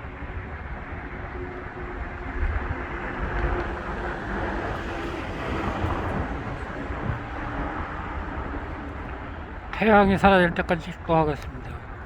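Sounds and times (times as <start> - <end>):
road traffic rumble: 0.0 - 12.0
wind buffeting microphone: 0.0 - 12.0.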